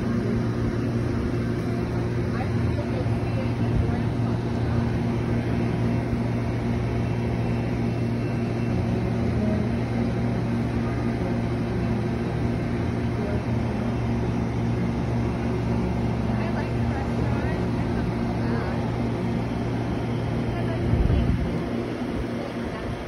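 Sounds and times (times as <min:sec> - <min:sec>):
standing train low hum: 0:00.0 - 0:23.0.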